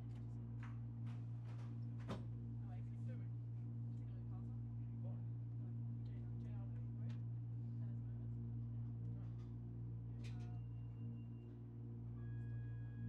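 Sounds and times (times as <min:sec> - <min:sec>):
train carriage hum: 0:00.0 - 0:13.0.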